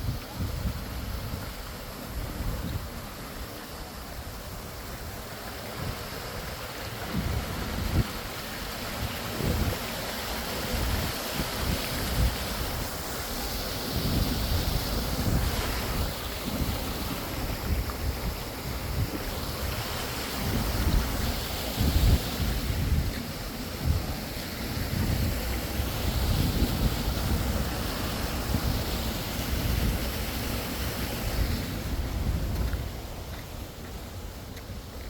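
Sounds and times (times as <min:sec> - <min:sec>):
rushing water: 0:00.0 - 0:35.0
wind buffeting microphone: 0:04.4 - 0:35.0.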